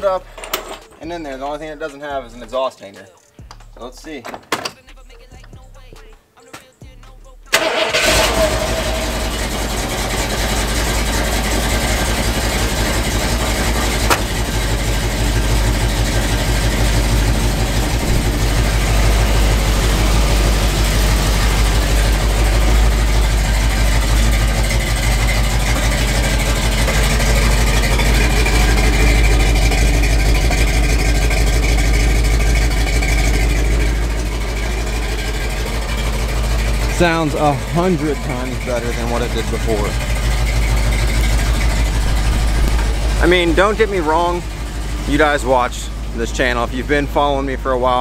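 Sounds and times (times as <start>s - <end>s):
truck engine idling: 7.0s - 48.0s.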